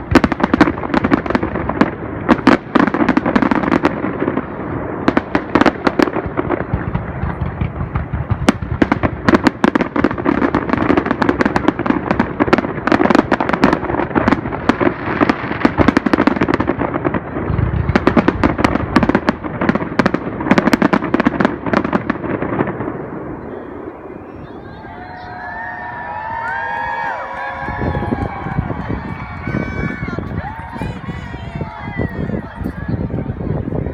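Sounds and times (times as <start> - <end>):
fireworks bangs and crackles: 0.0 - 33.9
fireworks rumble: 0.0 - 33.9.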